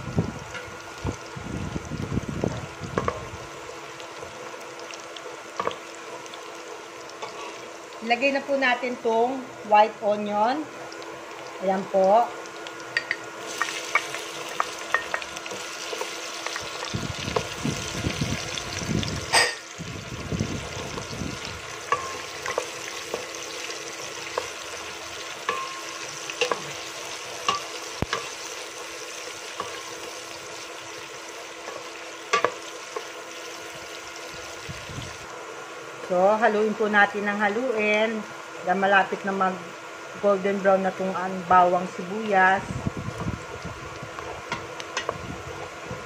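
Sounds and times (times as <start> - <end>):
onion sizzling in oil: 0.0 - 46.0.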